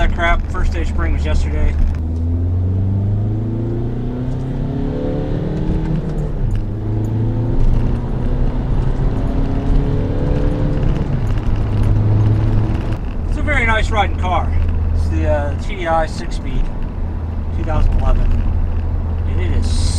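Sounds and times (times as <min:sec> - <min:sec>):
diesel engine accelerating: 0:00.0 - 0:19.9.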